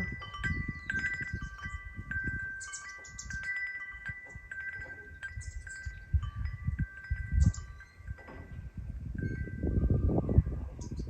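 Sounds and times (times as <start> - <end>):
wind chime ringing: 0.0 - 11.0.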